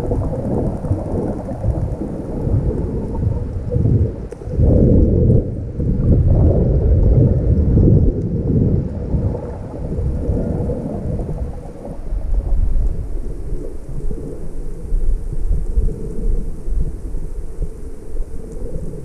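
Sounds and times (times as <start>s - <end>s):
muffled underwater water rumble: 0.0s - 19.0s.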